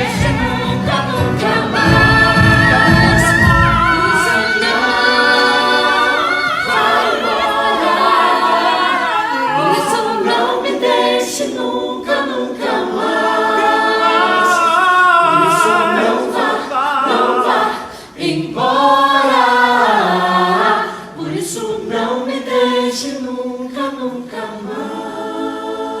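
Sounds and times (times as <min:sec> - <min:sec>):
voices singing a cappella: 0:00.0 - 0:26.0.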